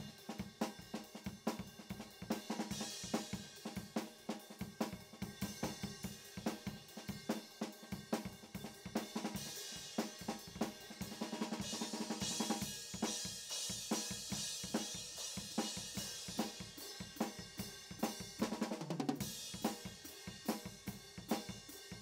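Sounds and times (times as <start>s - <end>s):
cymbals: 0.0s - 18.6s
drum kit steady beat: 0.0s - 22.0s.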